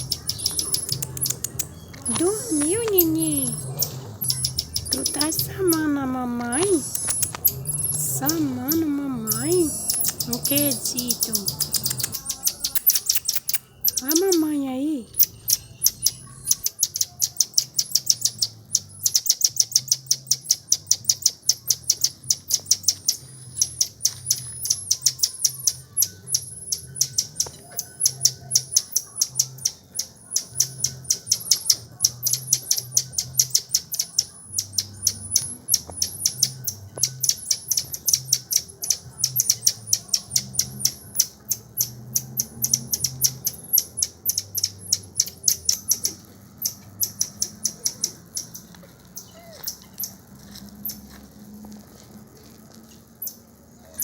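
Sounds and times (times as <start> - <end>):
small animal chirping: 0.0 - 51.1.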